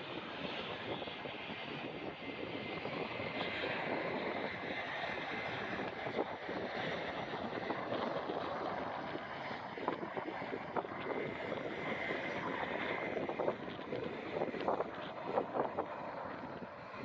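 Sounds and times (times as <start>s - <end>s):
faint engine whine: 0.0s - 17.0s
jet engines rushing: 0.0s - 17.0s.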